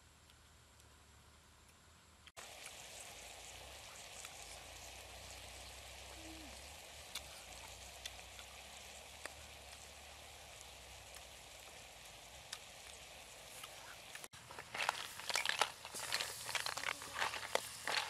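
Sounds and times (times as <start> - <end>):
faint outdoor hiss: 0.0 - 18.0.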